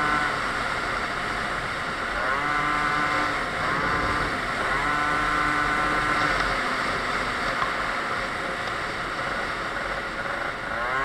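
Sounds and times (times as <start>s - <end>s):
road noise: 0.0s - 11.0s
two-stroke scooter engine: 0.0s - 11.0s.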